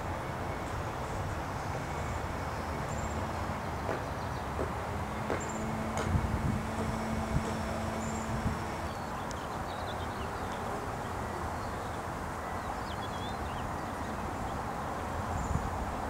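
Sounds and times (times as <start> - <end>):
rushing outdoor hush: 0.0 - 16.0.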